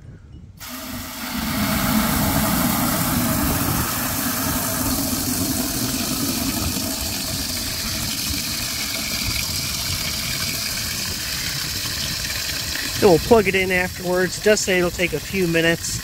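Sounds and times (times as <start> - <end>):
hose spraying water into basin: 0.6 - 16.0.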